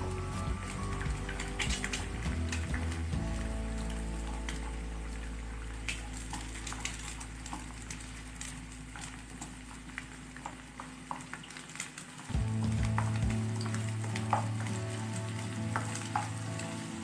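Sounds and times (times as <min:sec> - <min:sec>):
low background music: 0:00.0 - 0:09.0, 0:12.3 - 0:17.0
light sizzling: 0:00.0 - 0:17.0.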